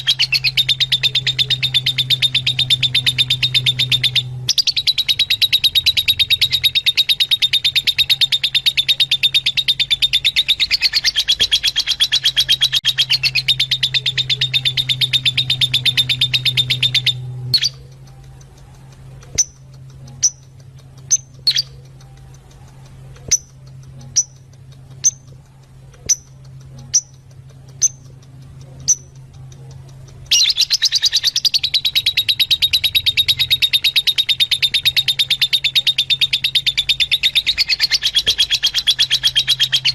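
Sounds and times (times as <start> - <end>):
lovebirds chattering: 0.0 - 39.9
steady low hum: 0.0 - 39.9.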